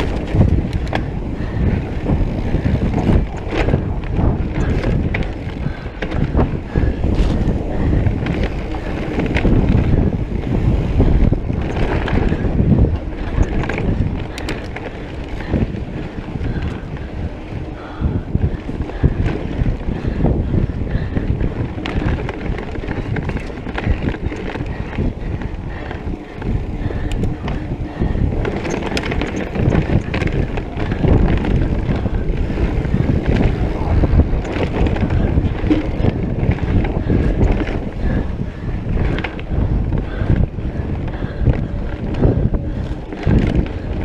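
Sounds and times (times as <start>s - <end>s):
bike rattling over bumps: 0.0s - 44.0s
tyres rumbling on dirt: 0.0s - 44.0s
wind buffeting microphone: 0.0s - 44.0s.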